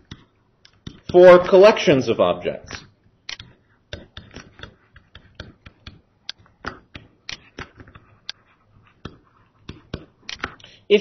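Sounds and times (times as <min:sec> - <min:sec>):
stylus clicking on tablet screen: 0:00.0 - 0:01.6, 0:02.7 - 0:10.7.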